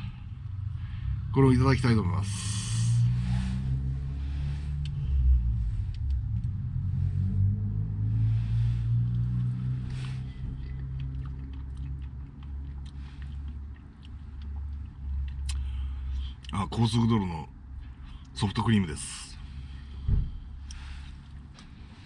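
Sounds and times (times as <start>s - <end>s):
car engine idling: 0.0s - 16.5s, 17.2s - 22.0s.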